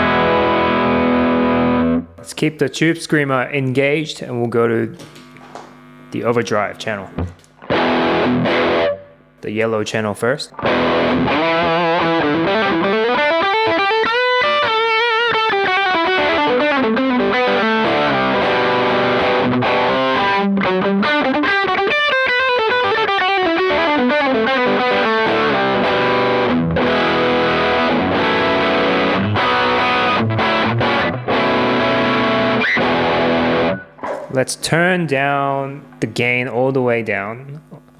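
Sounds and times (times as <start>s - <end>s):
distorted electric guitar lead: 0.0s - 2.4s, 4.3s - 9.8s, 10.5s - 37.9s.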